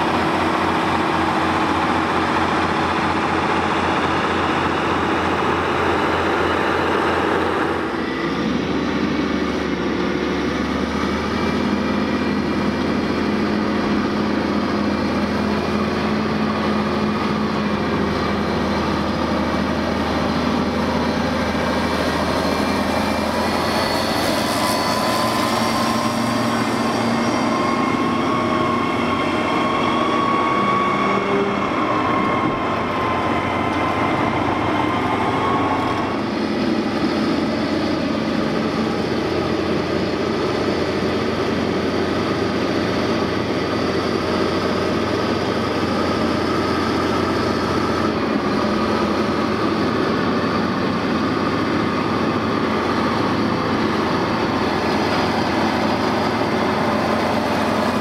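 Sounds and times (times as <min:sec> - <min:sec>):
heavy diesel engines droning: 0:00.0 - 0:58.0.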